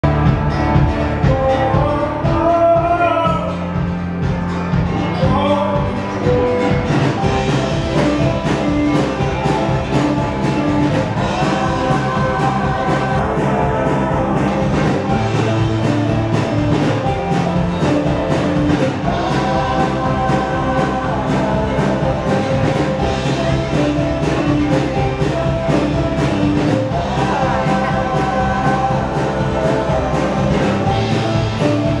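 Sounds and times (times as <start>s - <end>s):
steady drum beat: 0.0s - 32.0s
strummed acoustic guitars: 0.0s - 32.0s
man singing: 1.0s - 3.9s, 5.1s - 6.6s, 7.2s - 32.0s.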